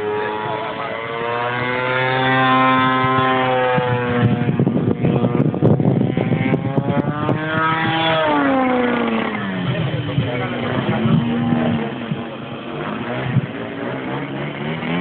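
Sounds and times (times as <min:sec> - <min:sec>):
model plane engine with propeller: 0:00.0 - 0:15.0.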